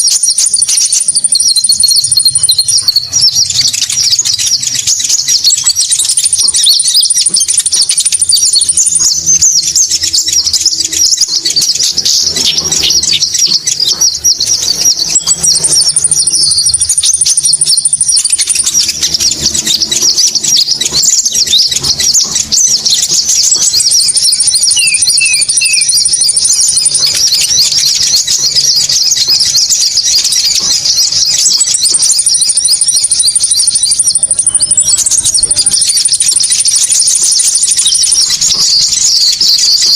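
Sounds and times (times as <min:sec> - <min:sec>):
recorded bird chatter: 0:00.0 - 0:39.9
thin high bird trill: 0:00.0 - 0:39.9.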